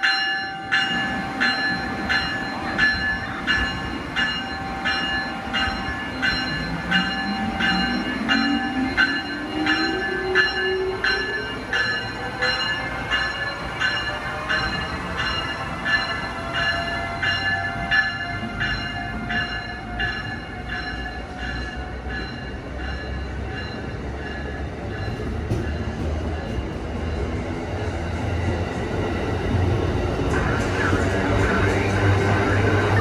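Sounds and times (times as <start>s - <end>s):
bell ringing: 0.0s - 26.5s
train low rumble: 0.0s - 33.0s.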